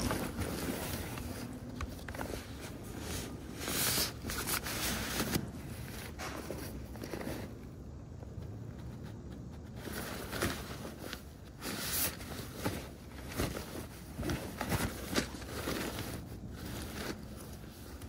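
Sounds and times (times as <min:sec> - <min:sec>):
fabric bag rustling: 0:00.0 - 0:07.8, 0:09.8 - 0:18.0.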